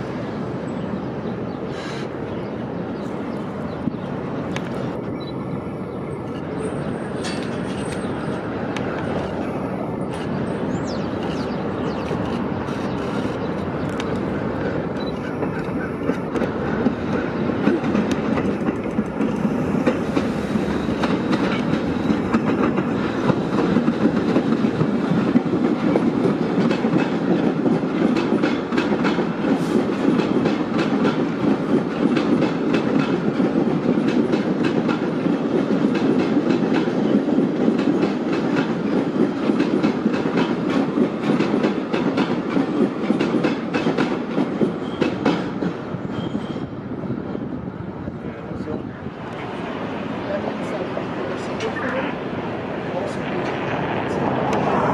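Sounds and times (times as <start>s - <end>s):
subway train rumbling past: 0.0s - 54.9s.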